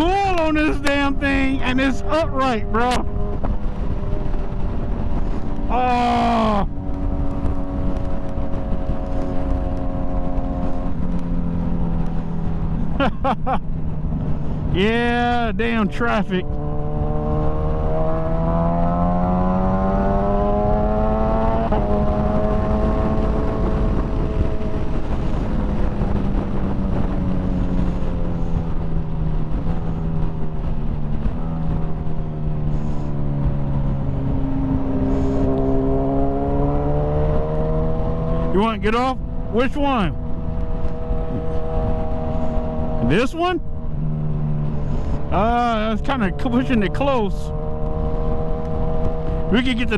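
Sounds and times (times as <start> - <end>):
motorcycle engine cruising: 0.0 - 49.9
wind rush on microphone: 0.0 - 49.9.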